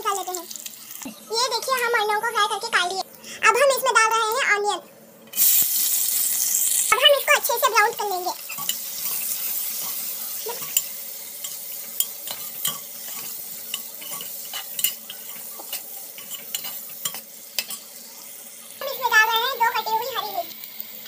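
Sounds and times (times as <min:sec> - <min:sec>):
onions sizzling in oil: 0:00.0 - 0:03.0, 0:05.2 - 0:21.0.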